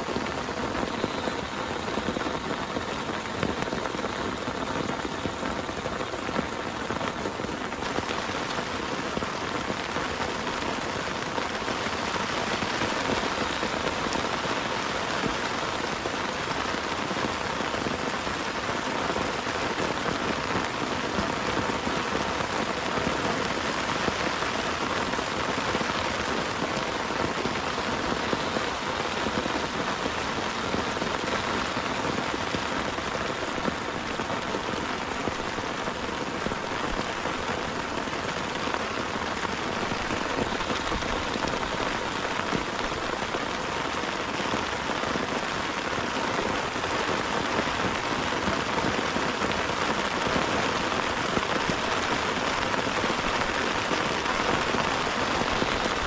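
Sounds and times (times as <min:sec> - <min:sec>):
heavy rain pattering: 0:00.0 - 0:56.0.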